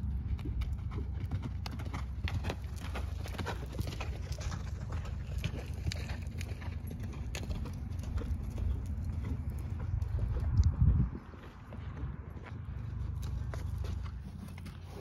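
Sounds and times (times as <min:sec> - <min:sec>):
horse hoofbeats on dirt: 0:00.0 - 0:15.0
steady low rumble: 0:00.0 - 0:15.0.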